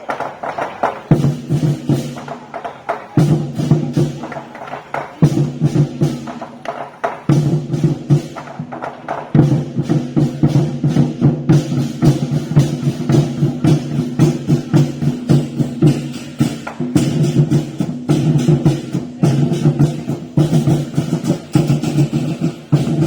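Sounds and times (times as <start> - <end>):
fast drum and clapper strikes: 0.0 - 23.0.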